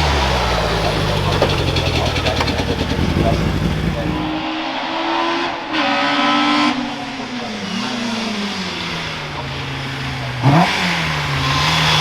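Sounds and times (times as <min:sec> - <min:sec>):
race car engine slowing: 0:00.0 - 0:12.0
sharp engine rev: 0:00.0 - 0:12.0.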